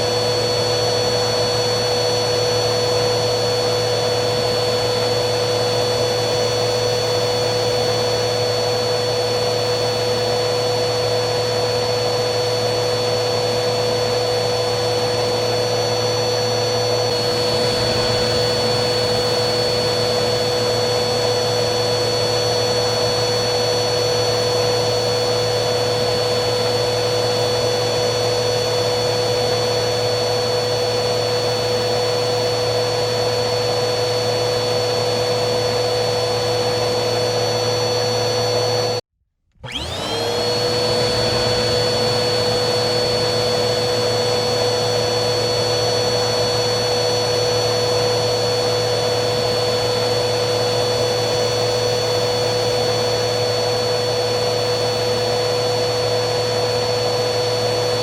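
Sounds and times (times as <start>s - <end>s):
vacuum cleaner motor running: 0.0s - 58.0s.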